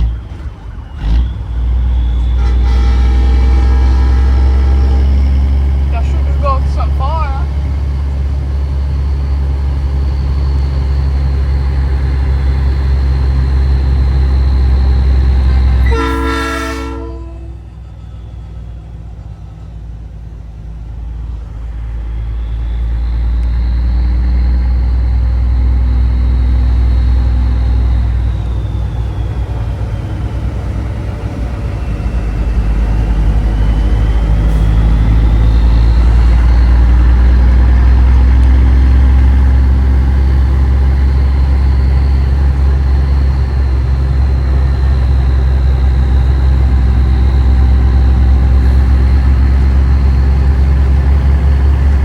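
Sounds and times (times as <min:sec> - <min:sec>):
truck diesel engine under load: 0:00.0 - 0:52.0.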